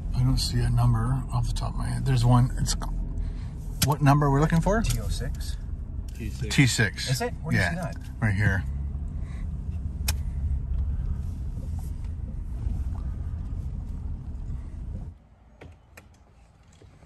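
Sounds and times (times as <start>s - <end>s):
car rumble from inside cabin: 0.0s - 15.2s.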